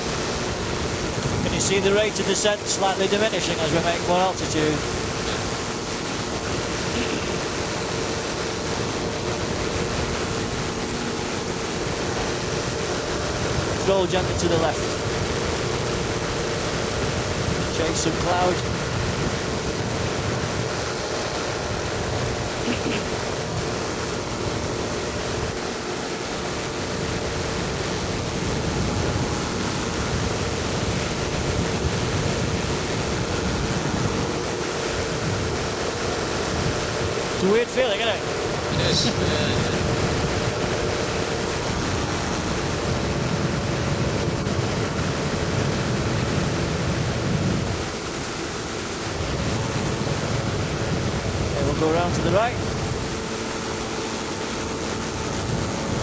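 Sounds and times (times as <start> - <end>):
aircraft engine and propeller hum: 0.0 - 56.0
wind rush: 0.0 - 56.0.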